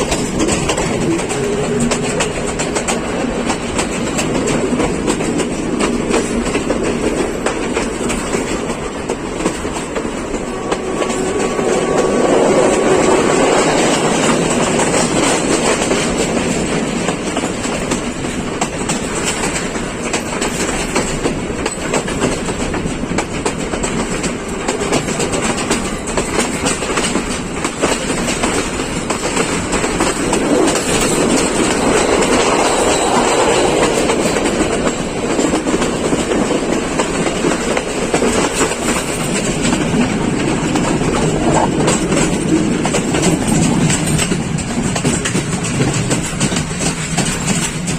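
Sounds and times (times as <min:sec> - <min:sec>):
train wheels clattering over rail joints: 0:00.0 - 0:47.9.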